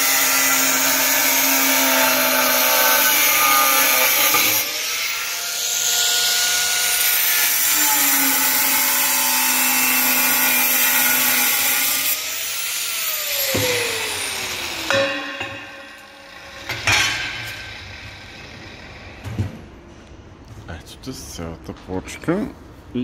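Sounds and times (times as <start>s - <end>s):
angle grinder cutting tile: 0.0s - 19.0s.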